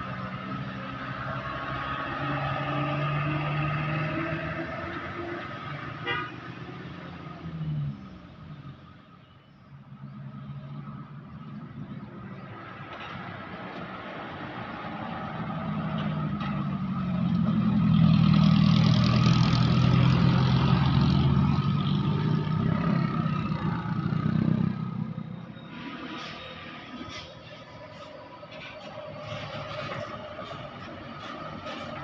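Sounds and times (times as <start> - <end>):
vehicle engine passing by: 0.0 - 8.8, 9.9 - 32.0.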